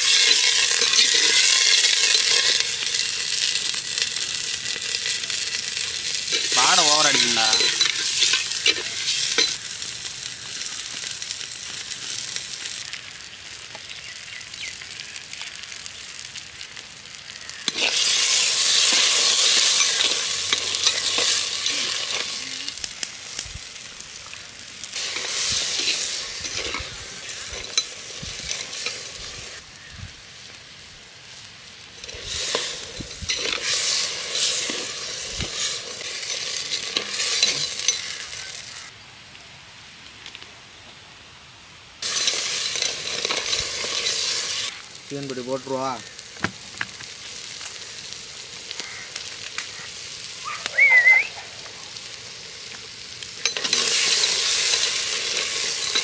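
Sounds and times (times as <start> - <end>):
crab pieces sizzling in clay pot: 0.0 - 39.0, 42.0 - 56.0.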